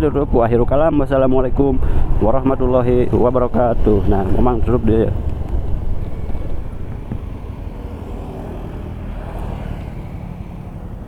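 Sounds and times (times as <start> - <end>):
motorcycle engine and road rumble: 0.0 - 11.0.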